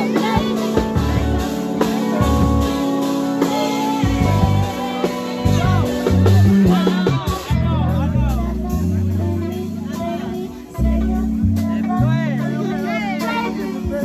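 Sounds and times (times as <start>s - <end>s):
bass line: 0.0s - 14.0s
electric guitar: 0.0s - 14.0s
keyboard: 0.0s - 14.0s
woman singing: 0.0s - 14.0s.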